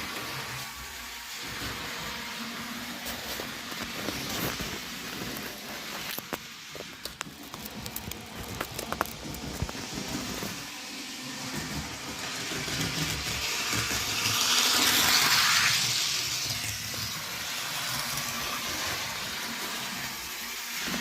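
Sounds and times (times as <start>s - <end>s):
hiss: 0.0s - 6.9s, 9.6s - 21.0s
model train motor running: 0.0s - 21.0s
wheels clicking on rails: 0.0s - 21.0s.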